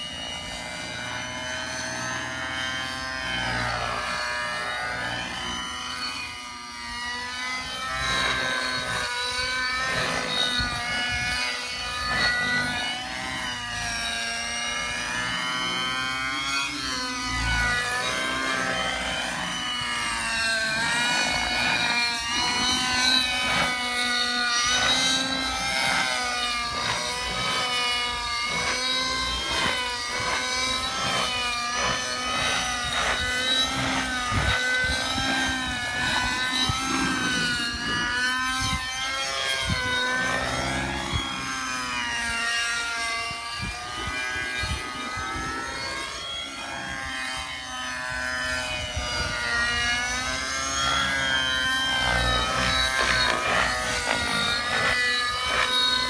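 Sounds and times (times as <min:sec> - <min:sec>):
model helicopter engine whine: 0:00.0 - 0:56.0.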